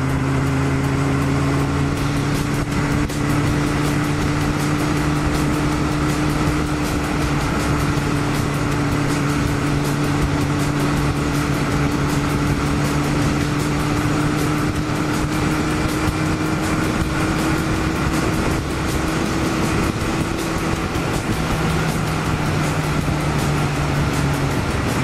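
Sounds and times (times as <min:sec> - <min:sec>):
motorcycle engine cruising: 0:00.0 - 0:25.0
wind rushing past microphone: 0:01.4 - 0:25.0.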